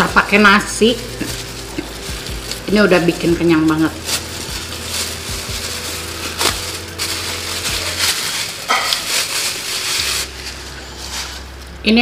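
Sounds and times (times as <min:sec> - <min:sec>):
plastic gloves crinkling: 0:00.0 - 0:12.0.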